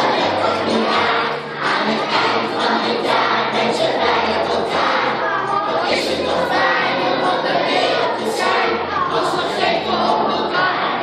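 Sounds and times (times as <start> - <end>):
children singing in chorus: 0.0 - 11.0.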